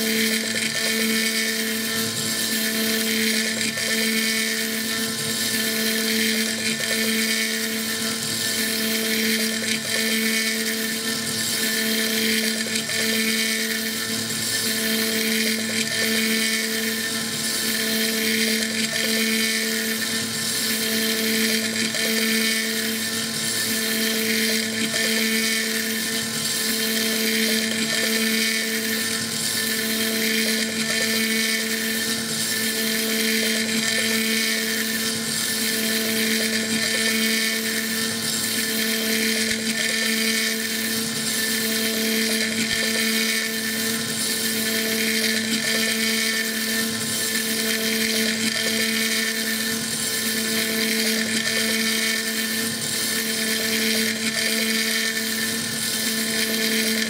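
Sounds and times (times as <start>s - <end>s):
end mill cutting wood: 0.0s - 57.0s
mill spindle whine: 0.0s - 57.0s.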